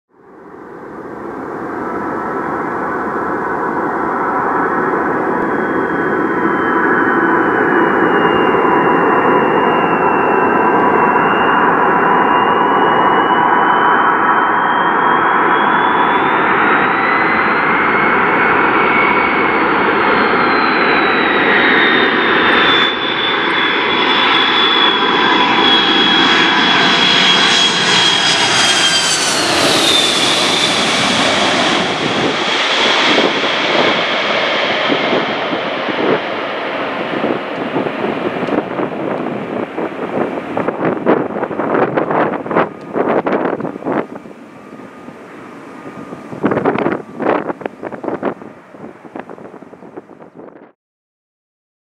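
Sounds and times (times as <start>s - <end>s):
jet engine roar with fan whine: 0.1s - 50.8s.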